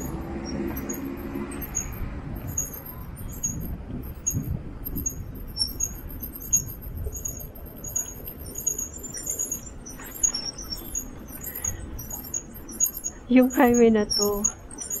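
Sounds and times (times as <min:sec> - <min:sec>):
wind on microphone: 0:00.0 - 0:14.9
high-pitched chirping: 0:00.0 - 0:15.0.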